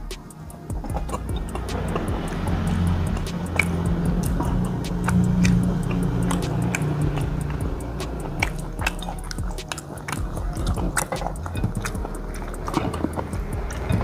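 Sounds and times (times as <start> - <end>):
faint background music: 0.0 - 14.0
person chewing meat: 0.0 - 14.0
wet smacking clicks: 0.0 - 14.0.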